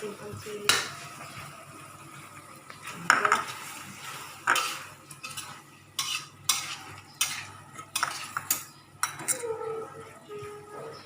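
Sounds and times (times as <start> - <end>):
utensil stirring food in pan: 0.0 - 11.0.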